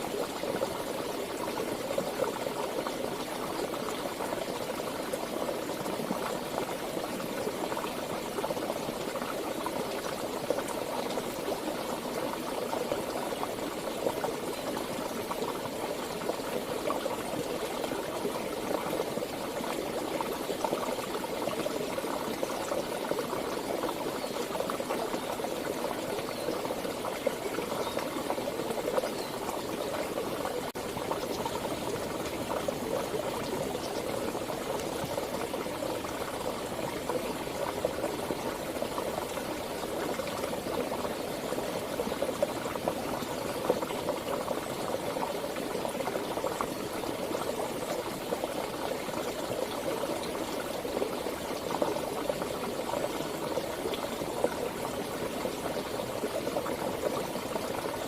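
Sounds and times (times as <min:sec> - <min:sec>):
stream water burbling over rocks: 0:00.0 - 0:58.0.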